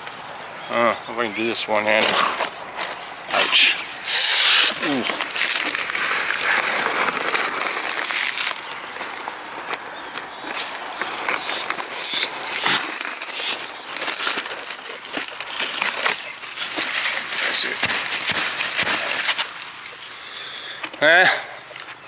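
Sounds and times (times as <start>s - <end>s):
dry leaves rustling and crackling: 0.0s - 20.8s.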